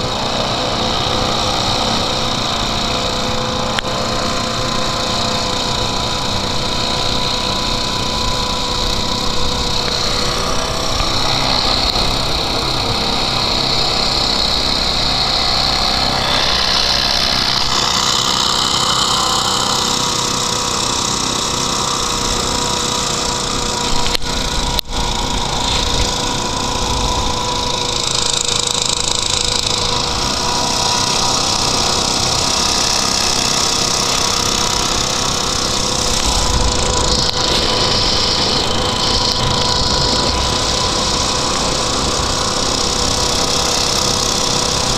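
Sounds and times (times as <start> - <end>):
hovercraft engine and propeller: 0.0 - 44.9.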